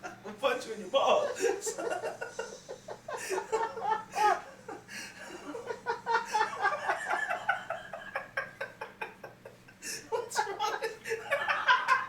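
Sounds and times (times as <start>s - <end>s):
people laughing hard: 1.4s - 12.0s.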